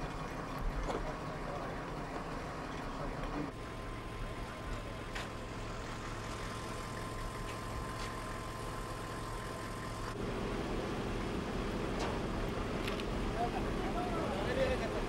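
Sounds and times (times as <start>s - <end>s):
vehicle engine idling: 0.0s - 15.0s
thin steady whine: 1.2s - 15.0s.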